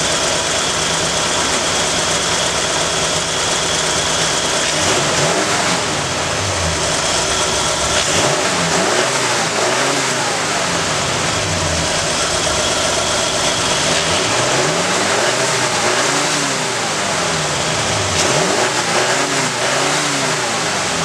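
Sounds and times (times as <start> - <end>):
car engine idling: 0.0 - 21.0
car engine revving: 0.0 - 21.0.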